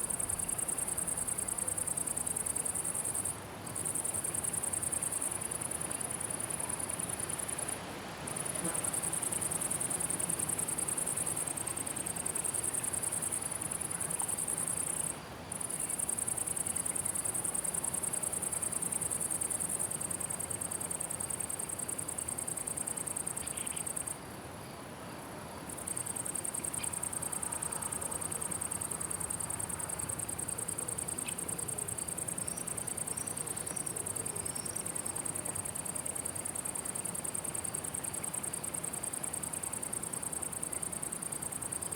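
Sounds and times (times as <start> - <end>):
insect stridulating buzz: 0.0 - 24.8, 25.7 - 41.9.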